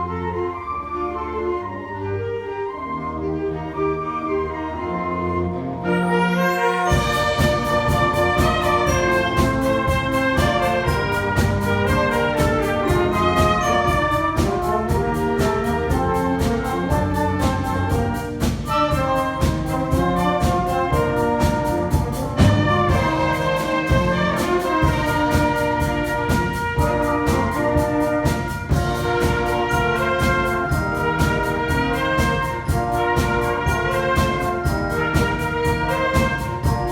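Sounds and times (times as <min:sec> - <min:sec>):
wind band playing pop music: 0:00.0 - 0:36.9.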